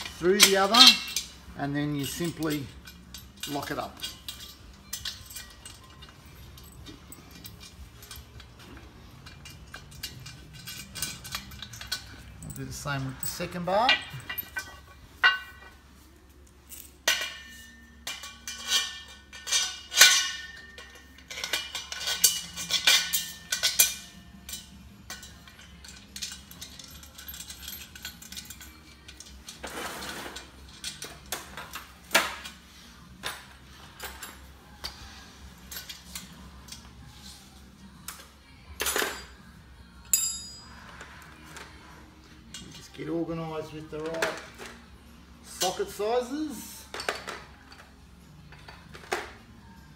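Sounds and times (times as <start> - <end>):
steel parts clinking and knocking: 0.0 - 49.9.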